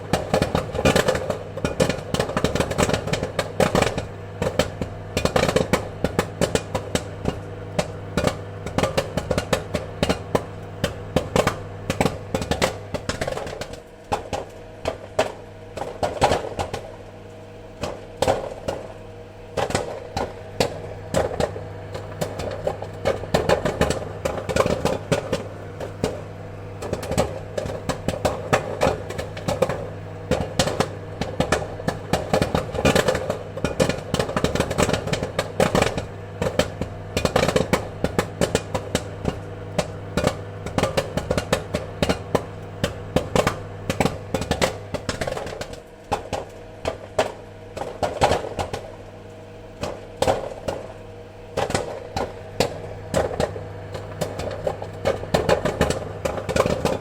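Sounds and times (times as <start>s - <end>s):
popcorn popping: 0.0s - 57.0s.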